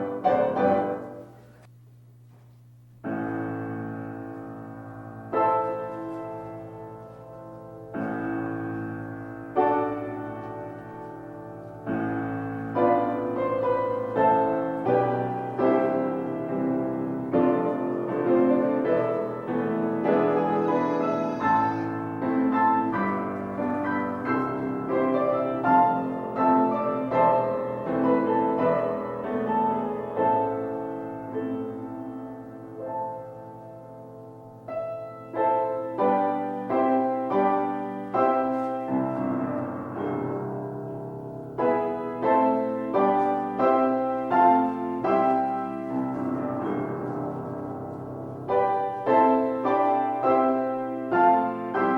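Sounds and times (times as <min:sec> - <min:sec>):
solo piano music: 0:00.0 - 0:01.7, 0:02.8 - 0:51.9.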